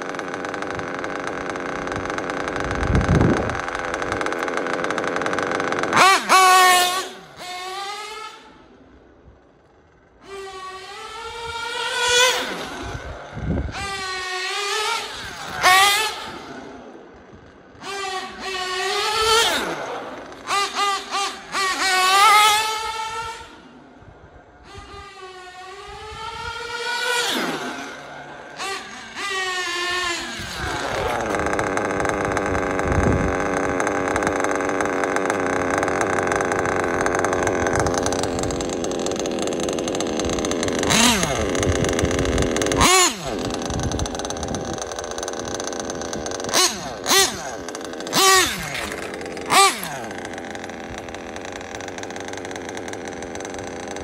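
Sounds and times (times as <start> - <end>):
engine throttle blips: 0.0 - 54.0
model car engine buzzing: 0.0 - 54.0.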